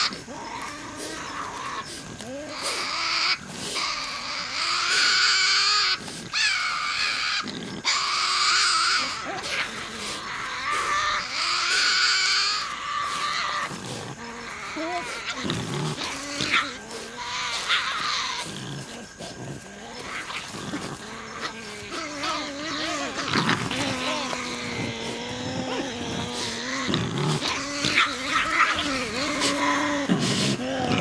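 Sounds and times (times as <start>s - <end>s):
animals growling and screeching: 0.0s - 31.0s.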